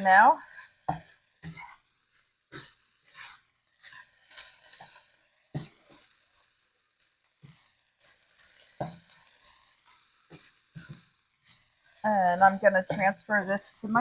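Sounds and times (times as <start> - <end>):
utensil scraping a pan: 0.0 - 6.4, 7.4 - 14.0
chicken sizzling in a skillet: 0.0 - 14.0.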